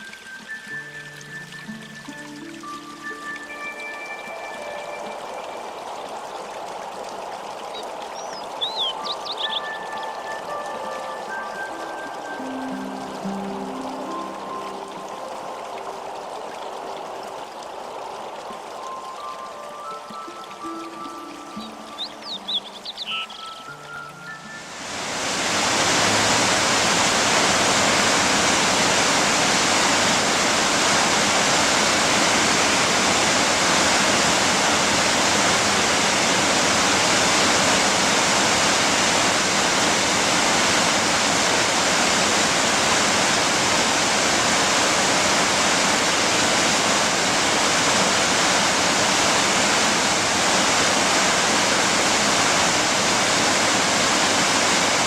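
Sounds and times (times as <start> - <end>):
rushing water roar: 0.0 - 55.0.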